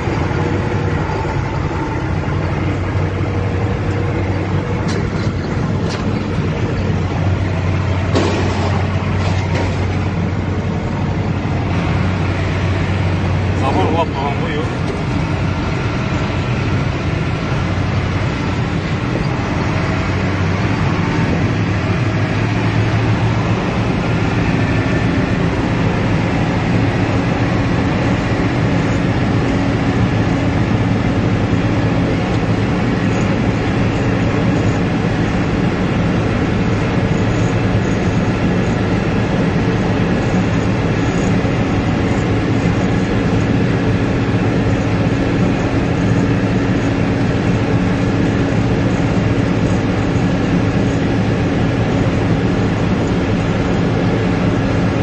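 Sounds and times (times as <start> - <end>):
road noise: 0.0 - 55.0
vehicle engine drone: 0.0 - 55.0.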